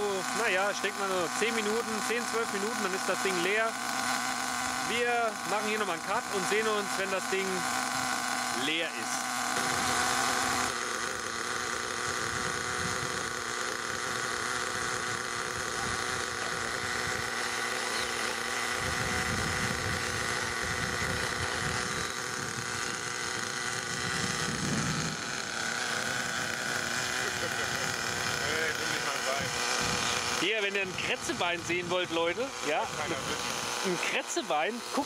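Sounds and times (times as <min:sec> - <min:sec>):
model car engine running: 0:00.0 - 0:35.0.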